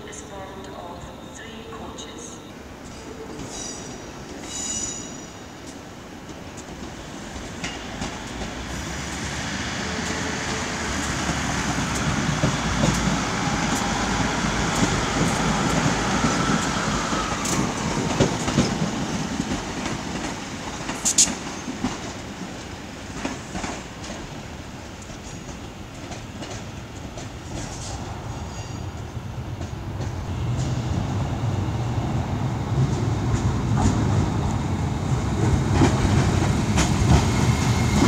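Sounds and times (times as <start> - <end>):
diesel train passing: 0.0 - 38.0.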